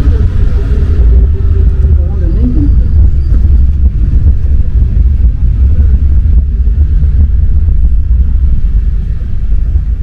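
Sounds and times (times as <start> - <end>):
metro train rumbling: 0.0 - 10.0.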